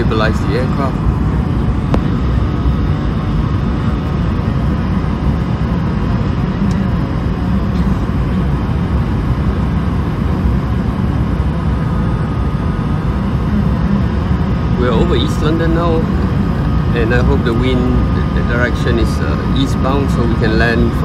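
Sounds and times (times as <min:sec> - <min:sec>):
airplane cabin drone: 0:00.0 - 0:21.0
faint steady tones: 0:00.0 - 0:21.0.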